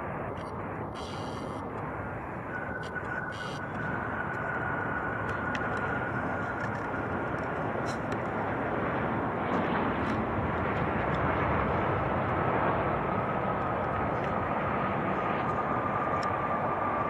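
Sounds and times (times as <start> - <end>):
high engine whine: 0.0 - 17.0
jet airliner engines running: 0.0 - 17.0.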